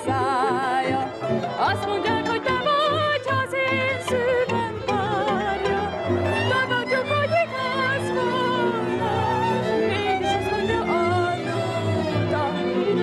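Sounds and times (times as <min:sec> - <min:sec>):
cello: 0:00.0 - 0:13.0.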